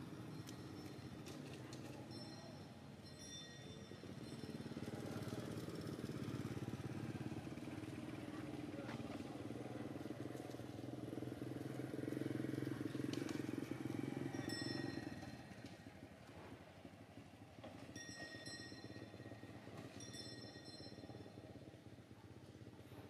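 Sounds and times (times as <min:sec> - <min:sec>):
vehicle engine running: 0:03.9 - 0:23.0.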